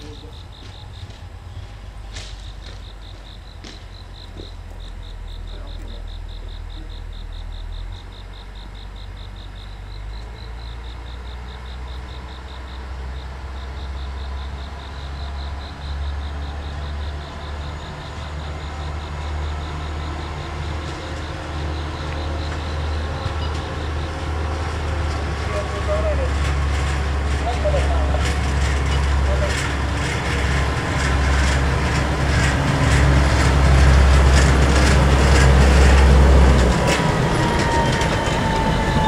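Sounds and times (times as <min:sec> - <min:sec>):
diesel engine rumble: 0:00.0 - 0:39.0
rapid pulsed insect chirping: 0:00.0 - 0:39.0.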